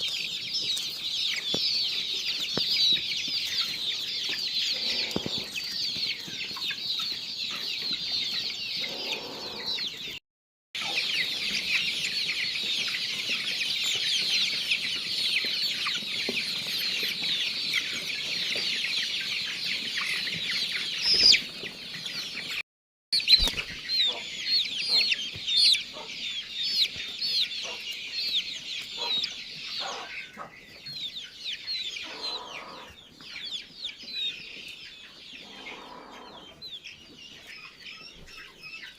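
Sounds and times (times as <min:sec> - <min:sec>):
chicks peeping: 0:00.0 - 0:10.2, 0:10.8 - 0:22.6, 0:23.2 - 0:38.9.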